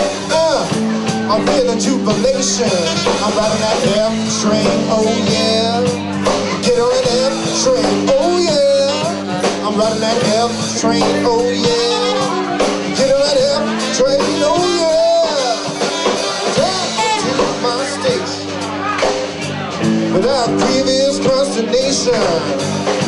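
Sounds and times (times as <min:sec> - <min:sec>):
saxophone: 0:00.0 - 0:19.0
drums: 0:00.0 - 0:23.0
electric guitar lead melody: 0:00.0 - 0:23.0.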